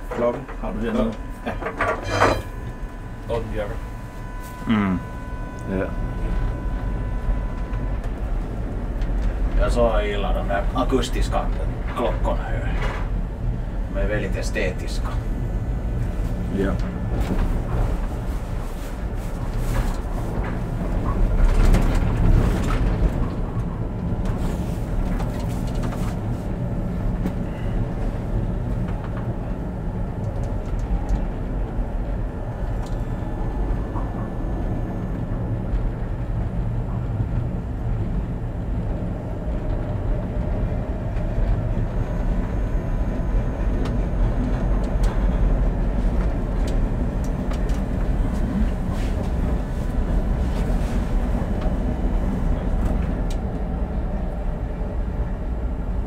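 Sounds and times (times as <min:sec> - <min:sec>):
electric tram motor hum: 0:00.0 - 0:56.0.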